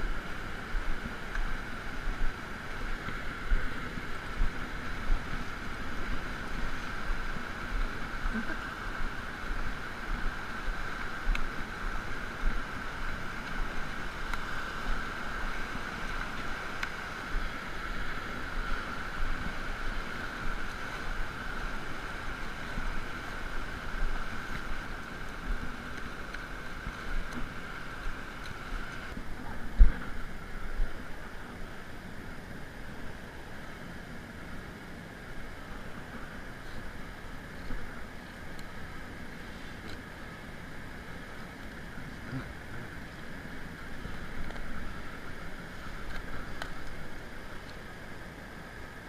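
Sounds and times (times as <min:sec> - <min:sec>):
surf breaking in shallow water: 0:00.0 - 0:49.0
wind rumbling on microphone: 0:00.0 - 0:49.0.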